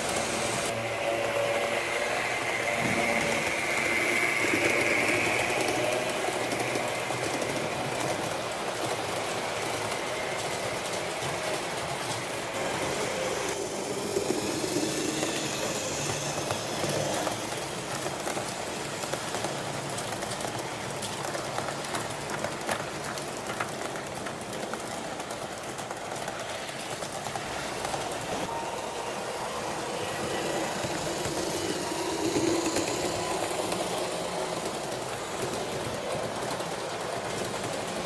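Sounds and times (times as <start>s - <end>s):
train wheels on rail joints: 0.0s - 38.0s.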